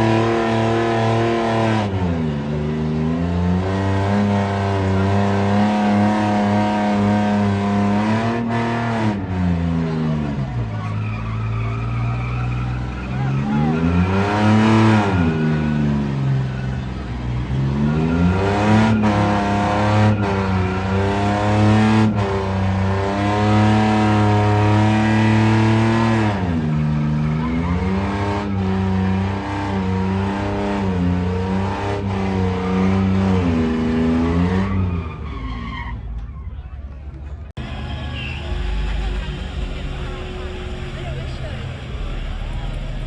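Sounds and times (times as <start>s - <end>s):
vehicle engine revving hard: 0.0s - 35.2s.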